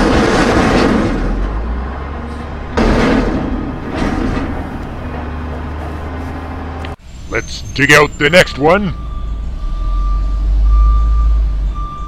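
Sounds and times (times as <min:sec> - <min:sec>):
truck engine humming: 0:00.0 - 0:12.0.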